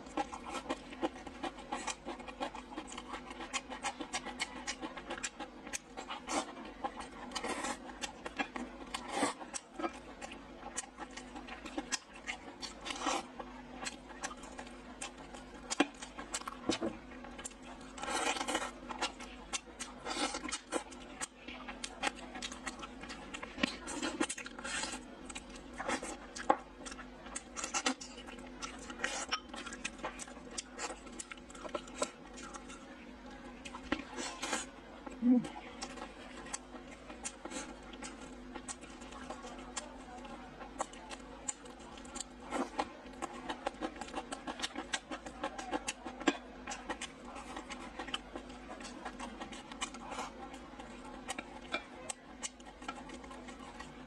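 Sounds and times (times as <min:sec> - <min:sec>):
wet chewing and lip-smacking: 0:00.0 - 0:32.9, 0:33.6 - 0:54.0.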